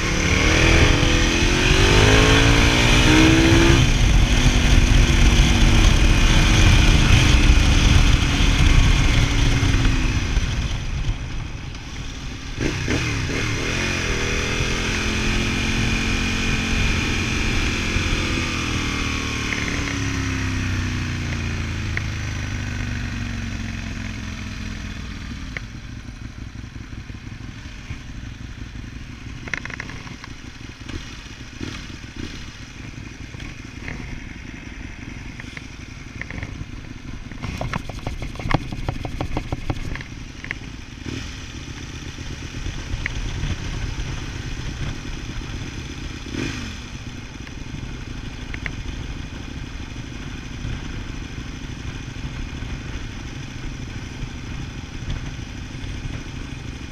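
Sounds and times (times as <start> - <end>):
motorcycle engine revving: 0.0 - 56.9
wind and road noise: 0.0 - 56.9.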